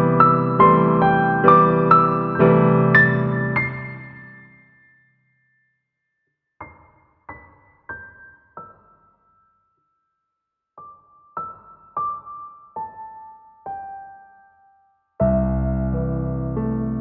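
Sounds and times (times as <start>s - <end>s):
slow piano music: 0.0s - 5.3s, 6.6s - 10.0s, 10.7s - 17.0s.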